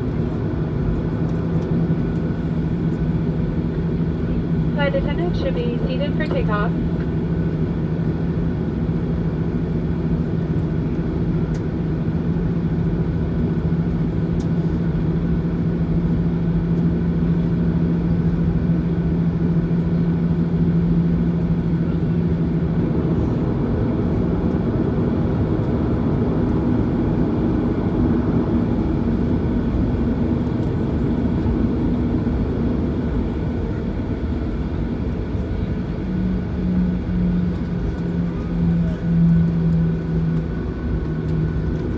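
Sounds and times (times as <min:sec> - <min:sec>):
jet engines droning in cabin: 0:00.0 - 0:41.9.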